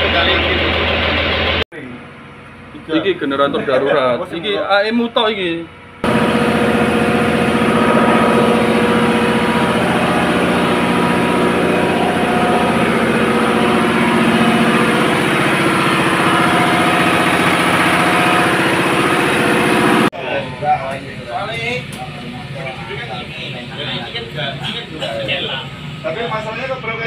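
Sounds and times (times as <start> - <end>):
diesel generator running: 0.0 - 27.0.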